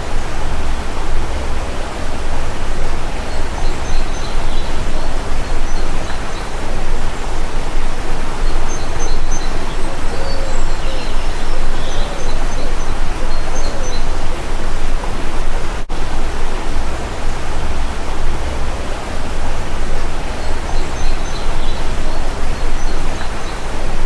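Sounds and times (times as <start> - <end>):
low bird call notes: 0.0 - 24.0
small birds chirping: 0.0 - 24.0
stream water rushing: 0.0 - 24.0.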